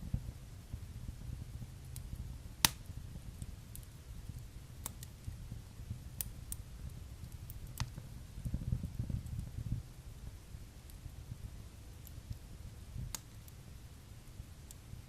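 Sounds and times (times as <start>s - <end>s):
fire crackling and popping: 0.0s - 15.0s
wood fire flames rumbling: 0.0s - 15.0s.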